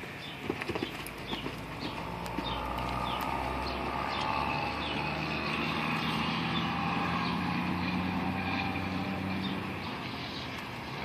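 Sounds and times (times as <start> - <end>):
small birds chirping: 0.0 - 11.0
vehicle engine humming: 0.7 - 11.0.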